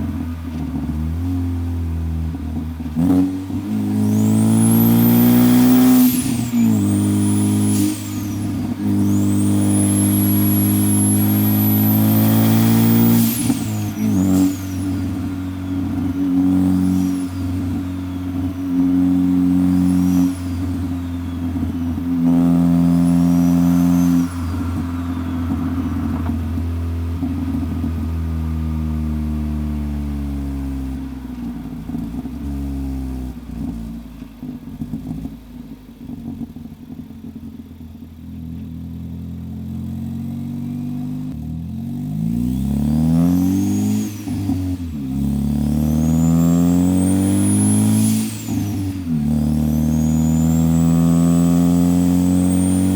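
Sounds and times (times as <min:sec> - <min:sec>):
high turbo whine: 0:00.0 - 0:35.2, 0:41.2 - 0:52.9
car engine accelerating and slowing: 0:00.0 - 0:52.9.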